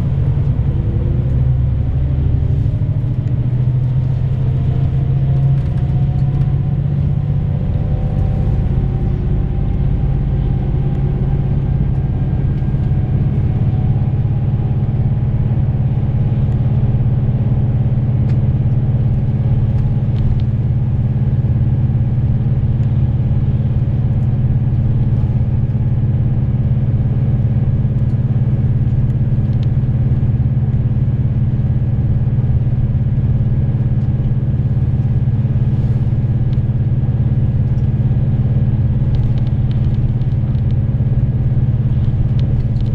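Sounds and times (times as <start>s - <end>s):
bus engine hum inside cabin: 0.0s - 42.9s.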